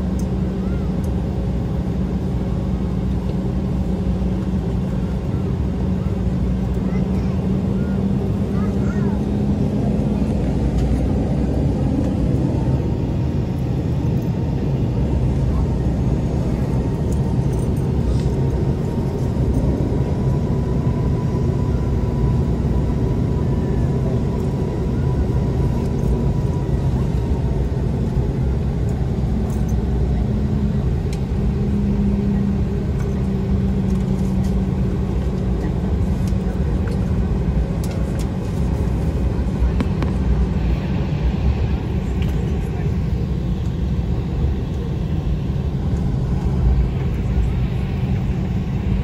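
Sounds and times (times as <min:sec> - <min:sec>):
faint high turbine whine: 0:00.0 - 0:49.0
jet engine low rumble: 0:00.0 - 0:49.0.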